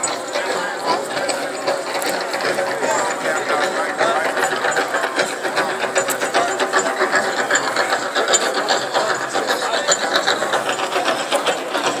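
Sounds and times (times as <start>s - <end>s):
crowd talking: 0.0s - 12.0s.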